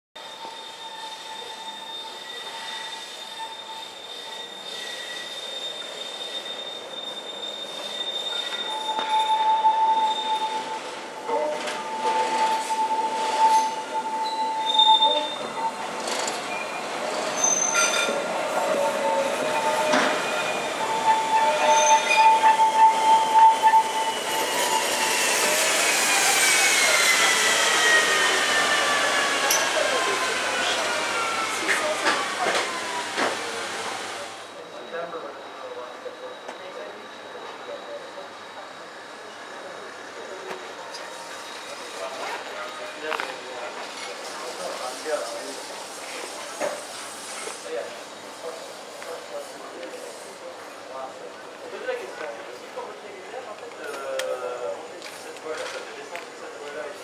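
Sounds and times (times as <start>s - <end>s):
train track noise: 0.2s - 57.0s
train wheels squealing: 0.2s - 57.0s.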